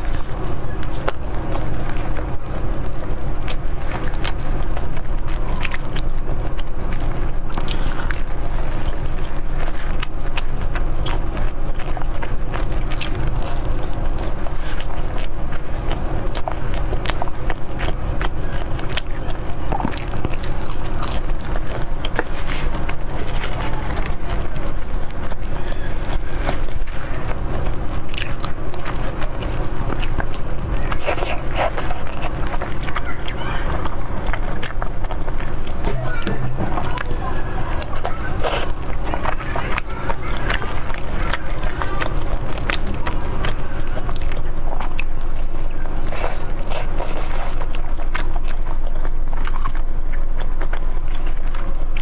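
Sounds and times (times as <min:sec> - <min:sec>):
chewing and biting: 0:00.0 - 0:52.0
low hum: 0:00.0 - 0:52.0.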